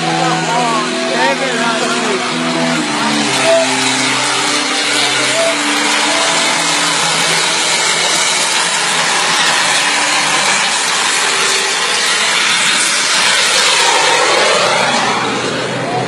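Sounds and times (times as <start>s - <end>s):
model jet engine rushing hiss: 0.0s - 16.0s.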